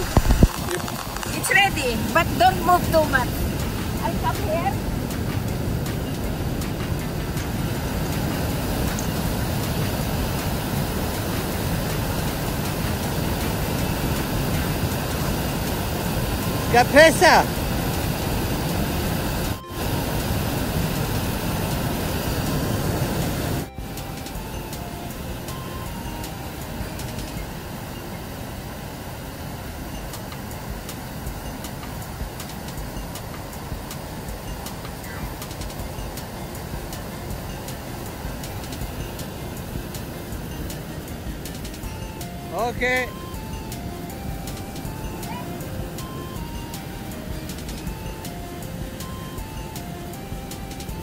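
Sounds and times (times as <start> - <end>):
waterfall roaring: 0.0 - 51.0.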